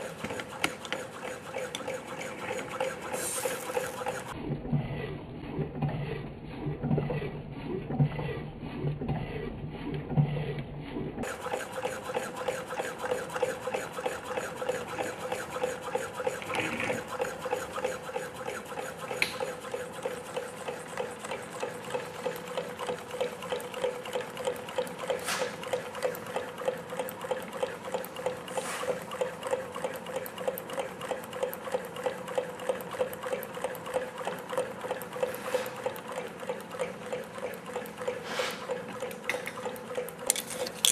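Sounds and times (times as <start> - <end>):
stirling engine rhythmic beat: 0.0 - 39.1.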